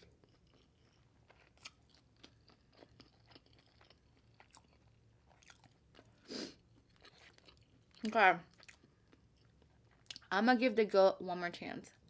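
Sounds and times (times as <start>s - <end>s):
close-up chewing with mouth clicks: 0.0s - 10.3s.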